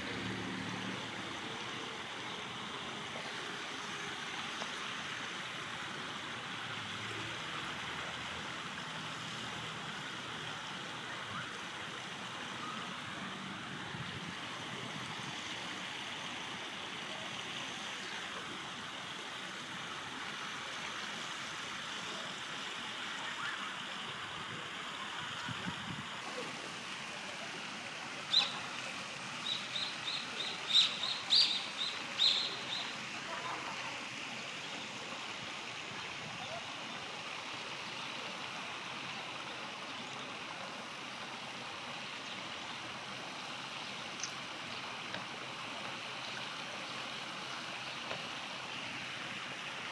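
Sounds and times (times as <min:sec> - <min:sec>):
running river water: 0:00.0 - 0:49.9.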